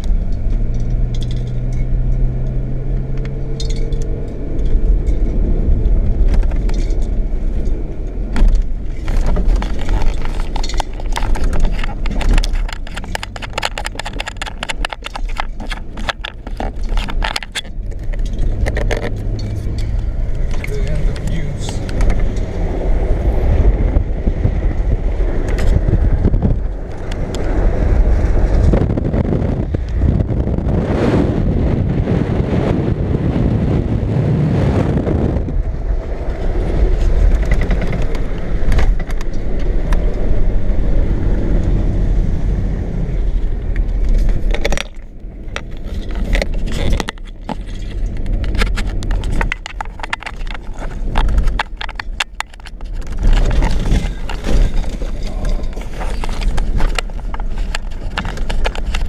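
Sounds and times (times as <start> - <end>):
rattles and knocks of vehicle body: 0.0 - 30.6, 35.3 - 41.7, 43.2 - 59.0
engine and tyres rumbling: 0.0 - 59.0.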